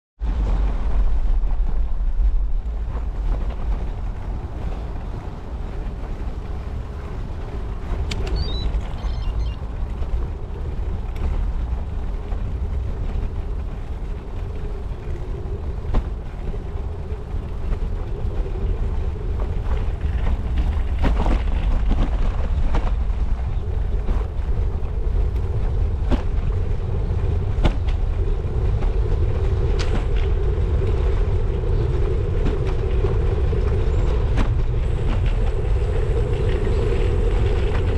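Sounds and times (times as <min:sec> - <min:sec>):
bicycle tyre noise: 0:00.2 - 0:37.9
wind rumble on microphone: 0:00.2 - 0:37.9.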